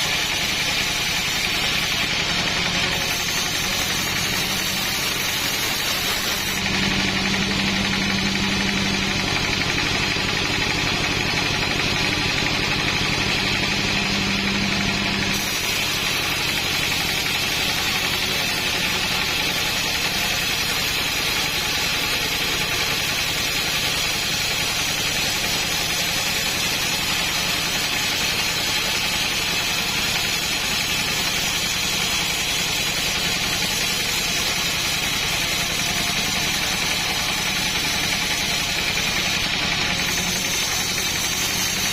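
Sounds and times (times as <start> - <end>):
petrol saw engine milling wood: 0.0 - 41.9.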